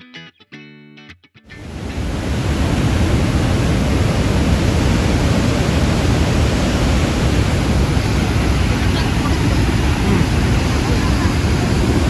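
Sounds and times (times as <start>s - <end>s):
large waterfall roaring: 1.6s - 12.0s.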